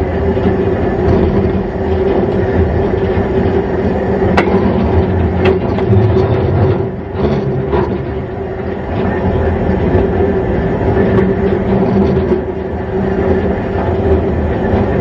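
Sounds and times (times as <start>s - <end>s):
steam locomotive rumble: 0.0s - 15.0s.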